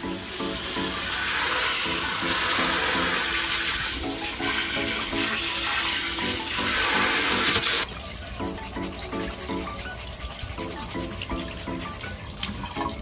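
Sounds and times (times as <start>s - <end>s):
background music: 0.0s - 13.0s
hose water splashing into tank: 0.0s - 13.0s.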